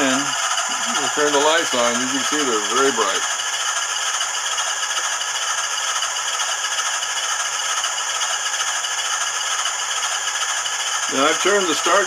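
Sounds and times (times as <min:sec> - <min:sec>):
locomotive running sound from small speaker: 0:00.0 - 0:12.0.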